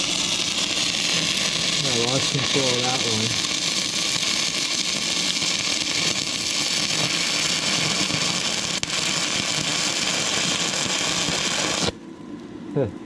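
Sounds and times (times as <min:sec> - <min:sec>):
welding arc crackling hiss: 0:00.0 - 0:12.0.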